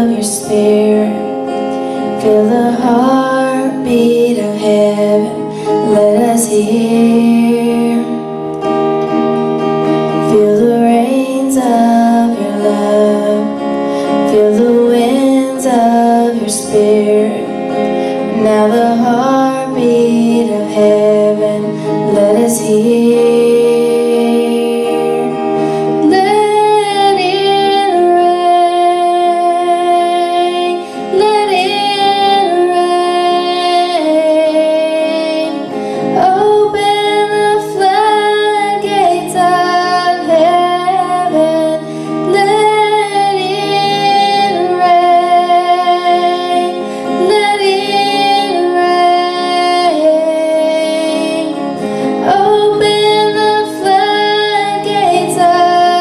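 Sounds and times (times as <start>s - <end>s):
woman singing worship song: 0.0s - 8.5s, 10.1s - 56.0s
guitar accompaniment: 0.0s - 56.0s.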